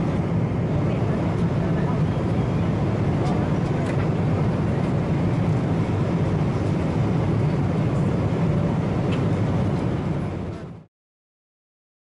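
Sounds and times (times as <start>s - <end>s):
airplane cabin engine rumble: 0.0s - 10.9s.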